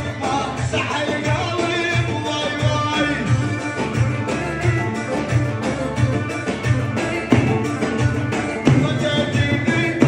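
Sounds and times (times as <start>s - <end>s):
drum strikes: 0.0s - 10.0s
folk dance music: 0.0s - 10.0s
high held melody: 0.0s - 10.0s.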